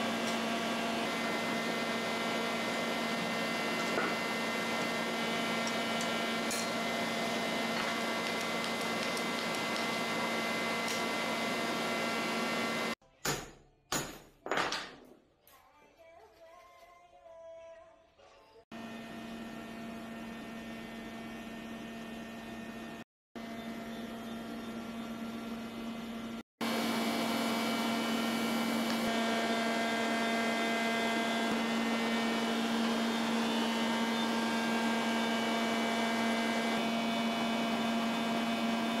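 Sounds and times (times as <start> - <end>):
machine hum: 0.0 - 13.0, 18.7 - 39.0.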